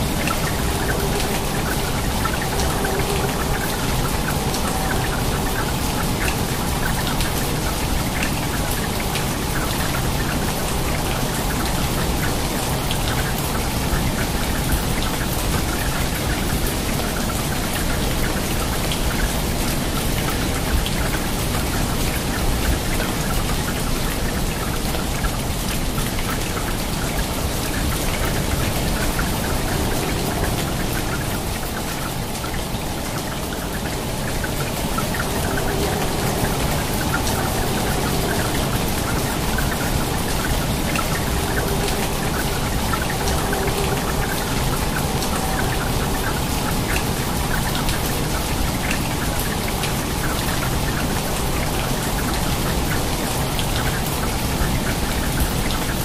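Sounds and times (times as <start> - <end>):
rain splashing on water: 0.0 - 56.0.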